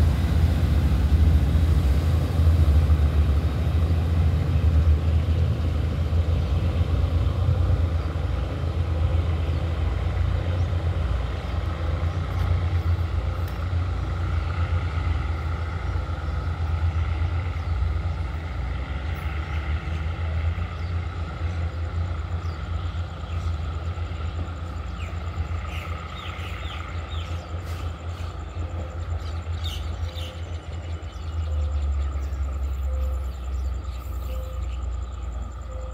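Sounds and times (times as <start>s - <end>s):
diesel train engine rumble: 0.0s - 35.9s.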